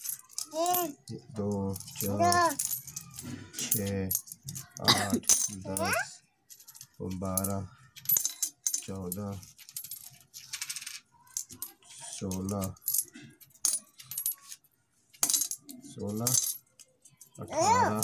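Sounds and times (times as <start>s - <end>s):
metal coins clinking on concrete: 0.0s - 18.0s.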